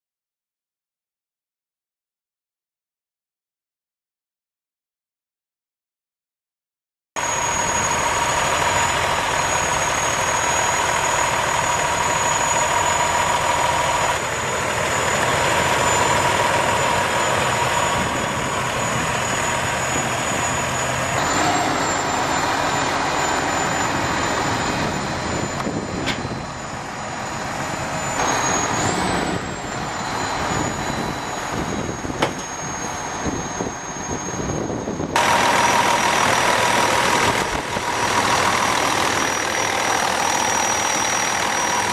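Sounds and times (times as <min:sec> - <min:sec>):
diesel truck engine running: 0:07.2 - 0:41.9
high-pitched whines: 0:07.2 - 0:41.9.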